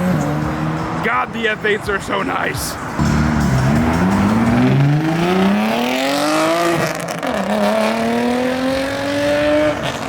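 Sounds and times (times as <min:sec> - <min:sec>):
sports car accelerating: 0:00.0 - 0:01.0, 0:02.8 - 0:10.0.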